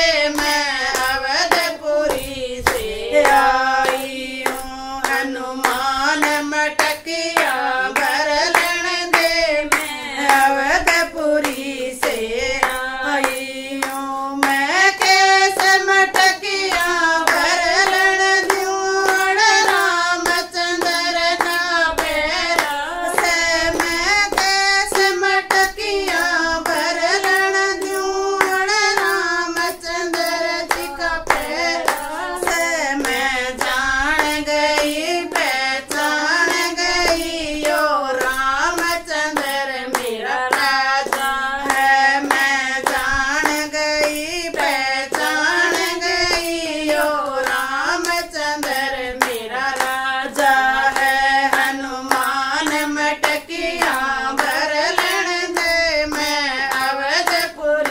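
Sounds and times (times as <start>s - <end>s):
hand-clapping: 0.0s - 57.9s
women singing folk song: 0.0s - 57.9s.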